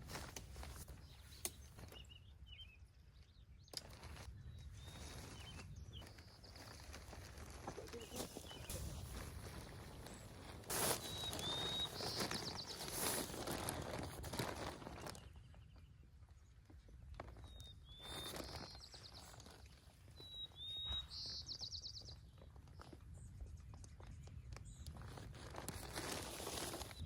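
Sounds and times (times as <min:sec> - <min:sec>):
songbird singing: 0:00.6 - 0:25.2.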